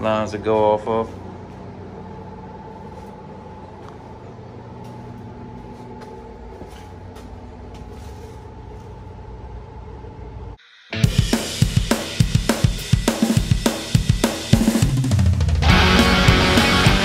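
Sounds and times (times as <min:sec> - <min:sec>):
machine hum with whine: 0:00.0 - 0:17.0.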